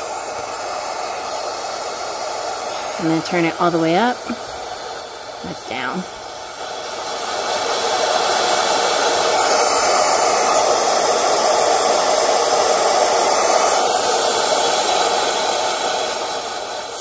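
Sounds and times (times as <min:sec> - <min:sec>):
loud steady hiss: 0:00.0 - 0:17.0.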